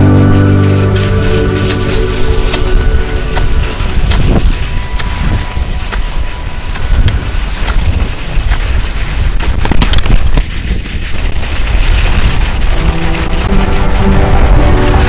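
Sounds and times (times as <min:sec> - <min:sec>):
skis rushing on snow: 0:00.0 - 0:15.0
wind buffeting microphone: 0:00.0 - 0:15.0.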